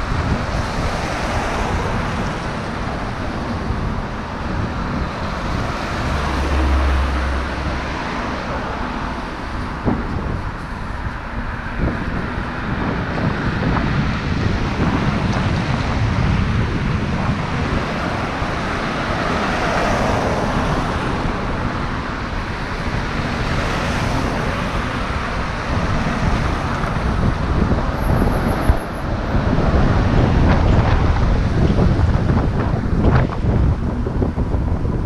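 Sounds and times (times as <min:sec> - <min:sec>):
cars passing: 0:00.0 - 0:35.0
wind rumbling on microphone: 0:00.0 - 0:35.0.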